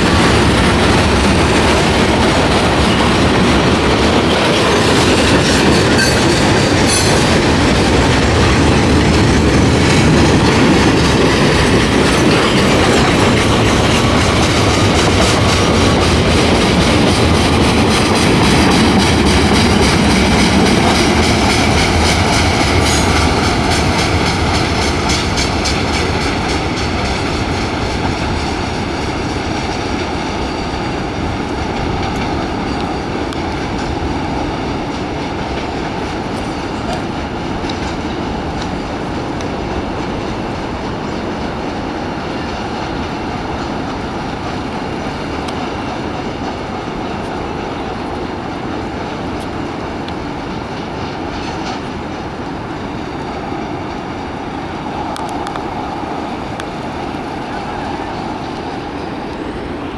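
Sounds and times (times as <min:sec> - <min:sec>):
clickety-clack over rail joints: 0:00.0 - 0:59.9
train wheels rumbling on rails: 0:00.0 - 0:59.9.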